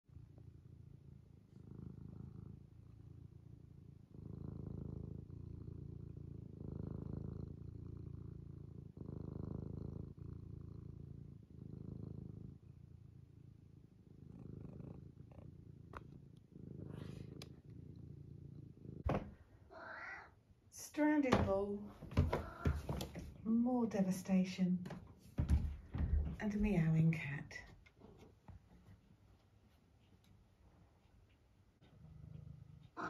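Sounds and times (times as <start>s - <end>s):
cat purring: 0.0s - 33.0s.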